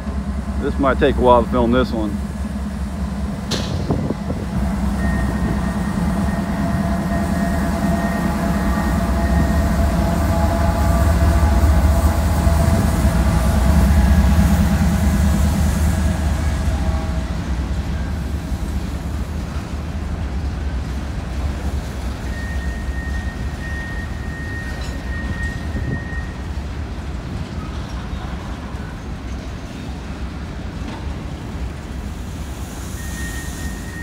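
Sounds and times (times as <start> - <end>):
freight cars rolling over bridge: 0.0 - 34.0
locomotive engine rumble: 0.0 - 34.0
locomotive whine: 0.0 - 34.0.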